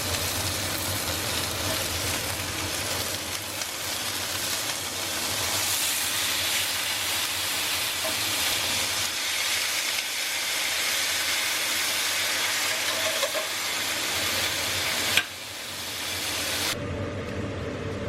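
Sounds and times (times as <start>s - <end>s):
loud steady hiss: 0.0s - 16.8s.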